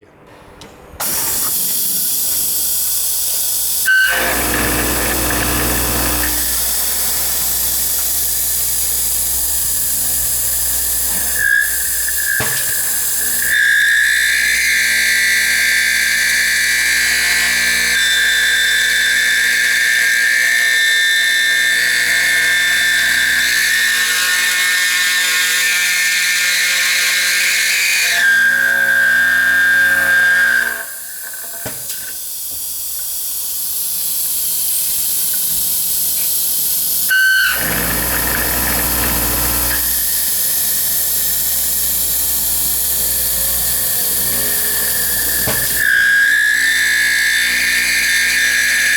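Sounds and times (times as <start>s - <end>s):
router cutter whining on steel: 1.0s - 32.0s, 36.5s - 48.9s.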